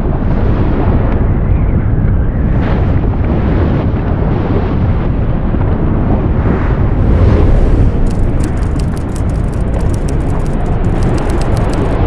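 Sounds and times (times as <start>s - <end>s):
volcano deep rumble: 0.0s - 12.0s.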